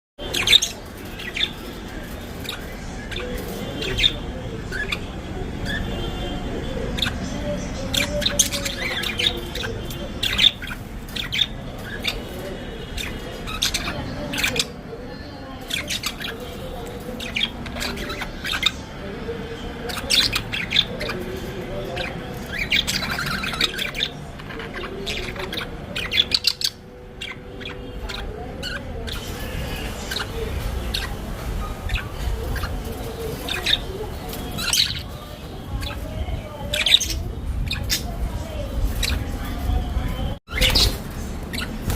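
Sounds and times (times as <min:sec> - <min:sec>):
budgerigars chattering: 0:00.2 - 0:41.9.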